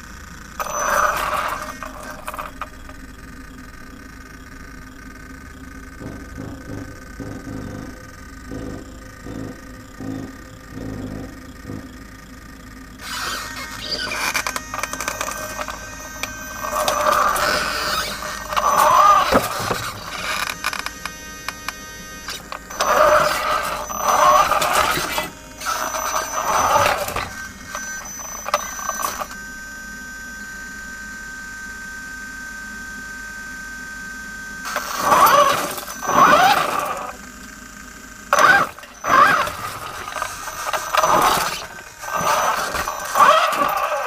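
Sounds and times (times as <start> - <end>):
motors whining in spurts: 0.0 - 44.0.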